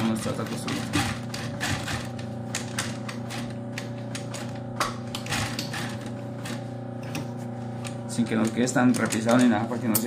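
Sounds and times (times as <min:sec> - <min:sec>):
sewing machine motor hum: 0:00.0 - 0:09.9.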